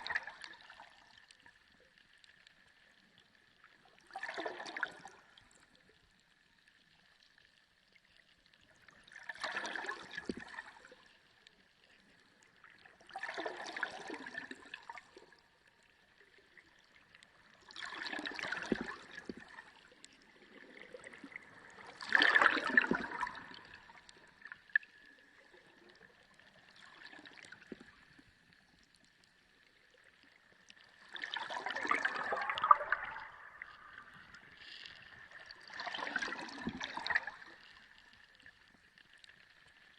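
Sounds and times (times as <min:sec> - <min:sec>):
sea water sloshing and gurgling: 0:00.0 - 0:39.9.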